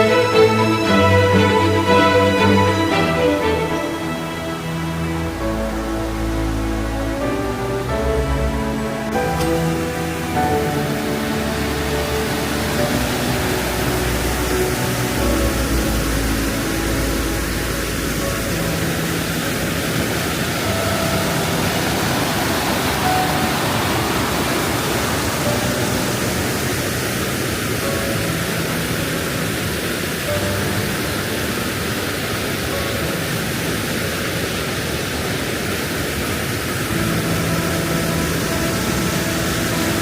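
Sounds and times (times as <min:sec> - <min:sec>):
steady rushing noise: 0:00.0 - 0:40.0.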